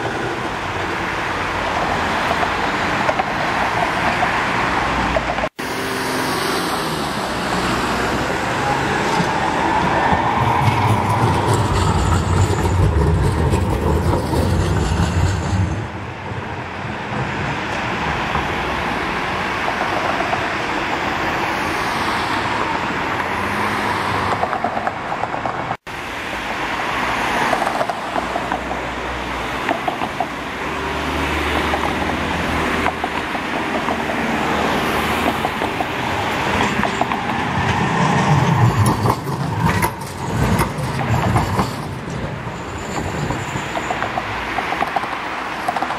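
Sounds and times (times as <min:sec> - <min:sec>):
road vehicle rumble: 0:00.0 - 0:45.9
trams running by: 0:00.0 - 0:45.9.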